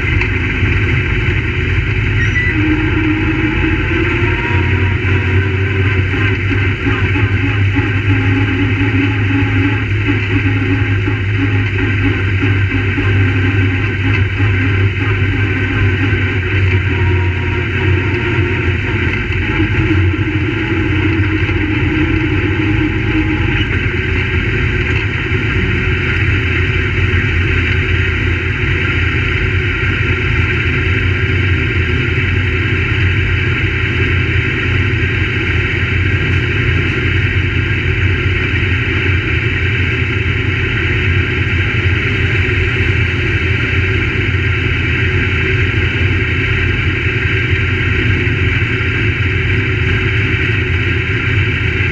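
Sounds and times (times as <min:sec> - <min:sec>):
race car engines running: 0:00.0 - 0:51.9.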